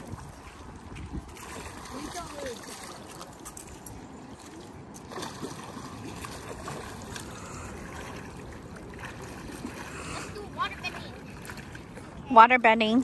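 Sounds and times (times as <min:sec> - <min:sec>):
child wading with splashes: 0:00.0 - 0:12.4
water rushing: 0:00.0 - 0:13.0.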